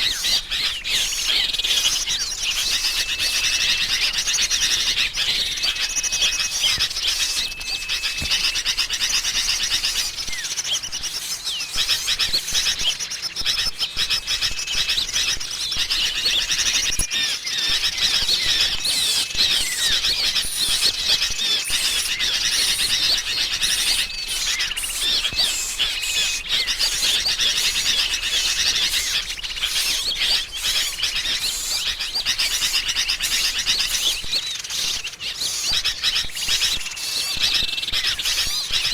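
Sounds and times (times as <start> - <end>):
short held bird whistles: 0.0 - 12.8, 17.1 - 38.9
bulbul chatter: 0.0 - 38.9
small birds chirping: 0.0 - 38.9.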